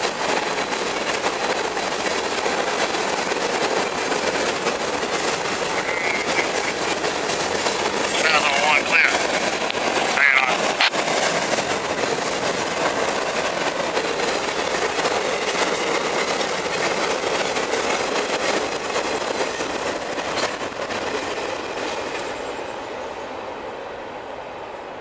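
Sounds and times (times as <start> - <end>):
train wheels rolling on rail: 0.0 - 25.0.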